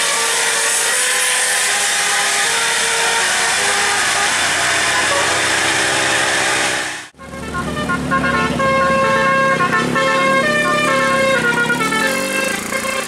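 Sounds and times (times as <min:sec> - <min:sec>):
musical vehicle horn melody: 0:00.0 - 0:13.0
vehicle engine and road noise: 0:00.0 - 0:13.0.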